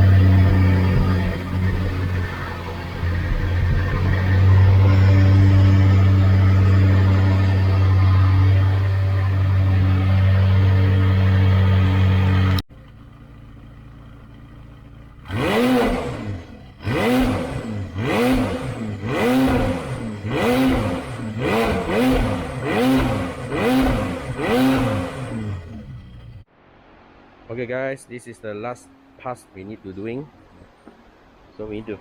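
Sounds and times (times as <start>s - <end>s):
car engine idling: 0.0s - 26.5s
engine throttle blips: 0.0s - 26.5s.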